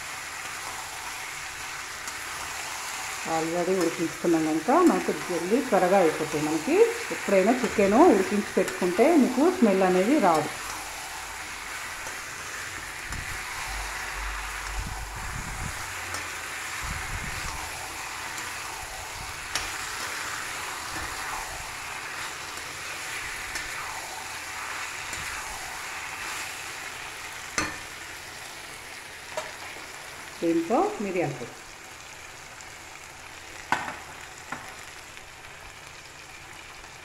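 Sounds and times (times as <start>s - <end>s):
chicken sizzling in oil: 0.0s - 37.0s.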